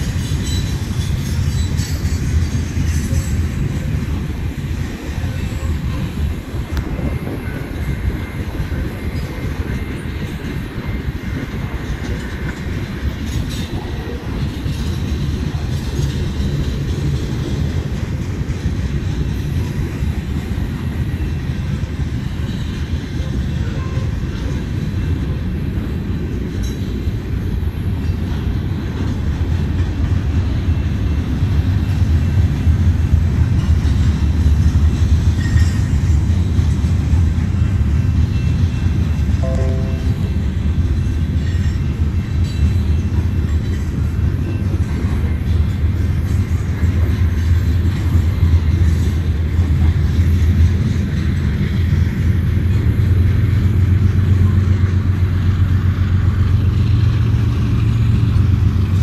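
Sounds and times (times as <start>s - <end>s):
freight train wheels rumbling on rail: 0.0s - 59.0s.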